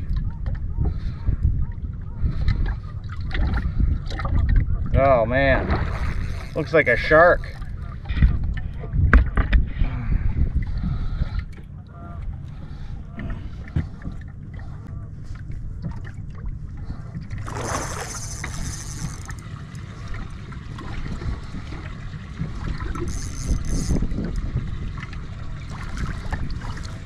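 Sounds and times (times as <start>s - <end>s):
wind on microphone: 0.0s - 27.0s.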